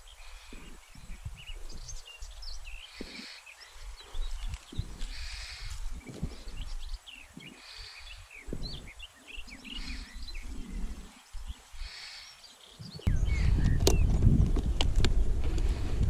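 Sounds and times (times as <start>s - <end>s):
wind buffeting microphone: 0.0s - 12.0s, 12.7s - 16.0s
birds chirping and singing: 0.0s - 14.9s.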